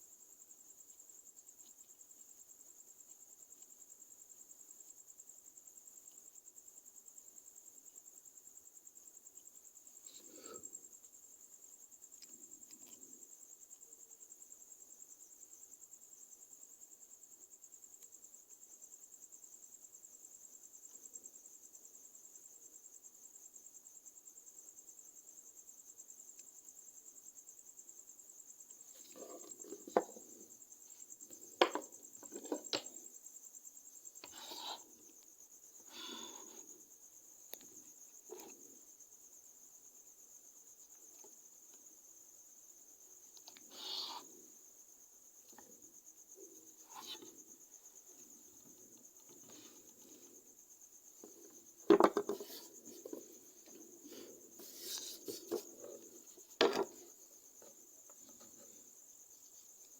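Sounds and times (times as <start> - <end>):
cricket trilling: 0.0 - 59.9.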